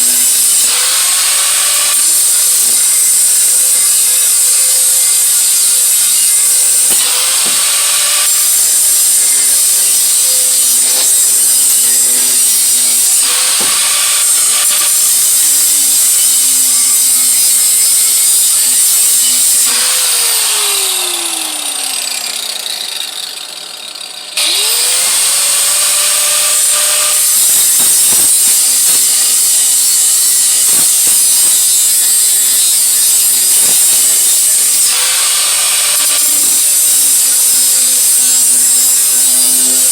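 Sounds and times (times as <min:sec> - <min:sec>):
electric grinder running: 0:00.0 - 0:39.9.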